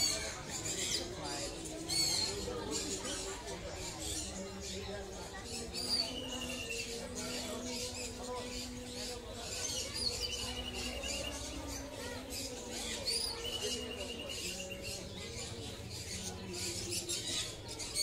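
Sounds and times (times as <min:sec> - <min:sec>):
birds chirping and squeaking: 0:00.0 - 0:18.0
murmur of crowd voices: 0:00.0 - 0:18.0.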